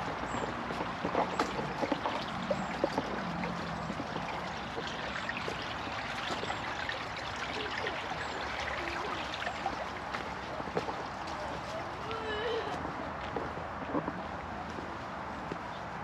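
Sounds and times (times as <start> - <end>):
water trickling: 0.0 - 12.9.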